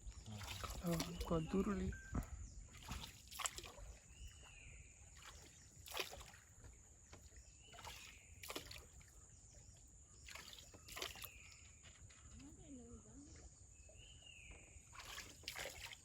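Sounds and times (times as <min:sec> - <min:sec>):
paddle splashing in water: 0:00.0 - 0:01.9, 0:02.6 - 0:11.8, 0:13.3 - 0:16.0.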